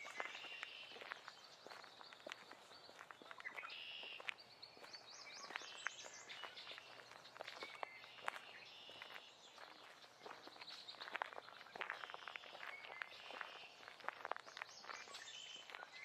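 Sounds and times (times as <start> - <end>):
birds singing: 0.0 - 16.0
footsteps crunching on forest floor: 0.0 - 16.0.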